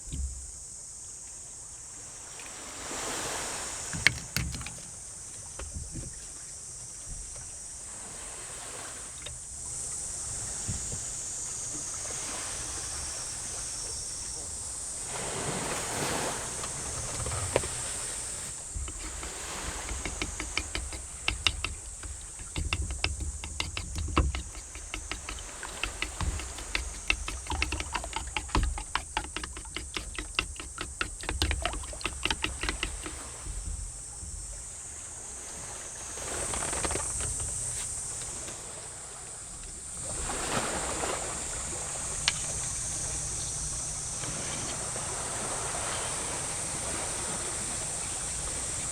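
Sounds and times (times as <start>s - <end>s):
steady high hiss: 0.0s - 31.0s, 31.6s - 48.9s
sea waves washing ashore: 1.9s - 48.9s.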